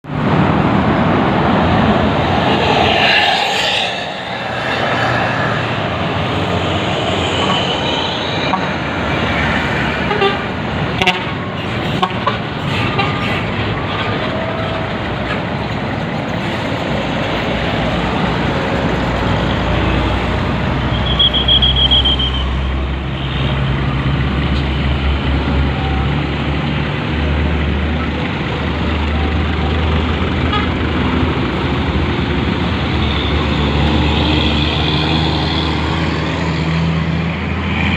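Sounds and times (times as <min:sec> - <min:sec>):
road traffic noise: 0:00.0 - 0:37.9
heavy truck engine humming: 0:00.1 - 0:37.9.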